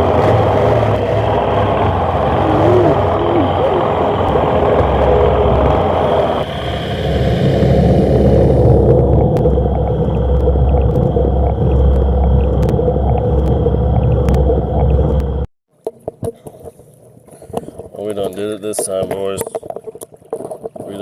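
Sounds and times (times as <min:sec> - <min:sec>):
underwater rumble of flood water: 0:00.0 - 0:21.0.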